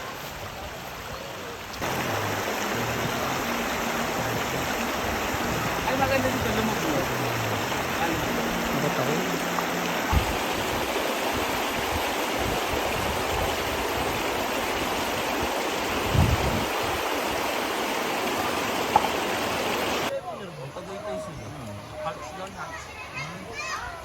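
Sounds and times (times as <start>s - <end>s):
river water rushing: 0.0s - 20.1s.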